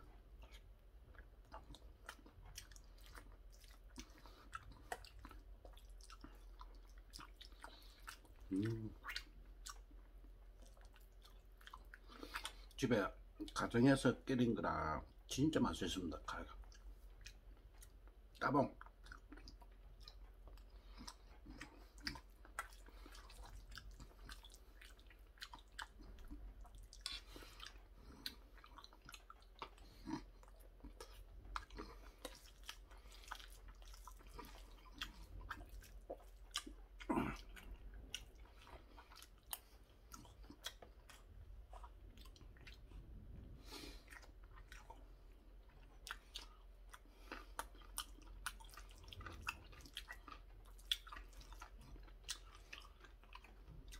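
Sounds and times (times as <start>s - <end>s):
chewing with wet mouth clicks: 0.0s - 13.8s, 16.2s - 53.9s.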